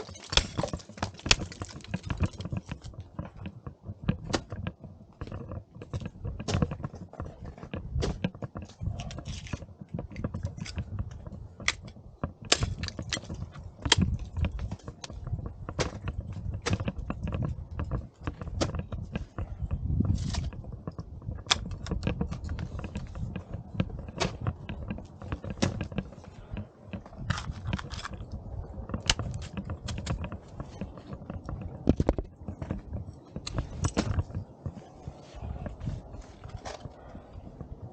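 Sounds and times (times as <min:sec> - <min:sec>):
microphone handling noise: 0:00.0 - 0:37.9
wind rumble: 0:00.0 - 0:37.9.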